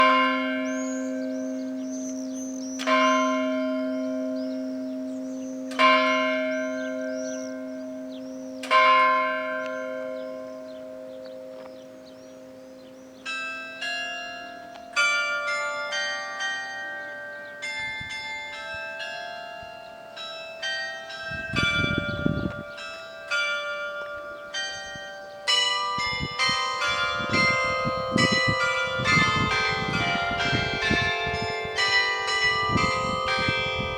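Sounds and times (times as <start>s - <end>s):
large church bell striking: 0.0s - 33.9s
smaller bells pealing: 0.0s - 33.9s.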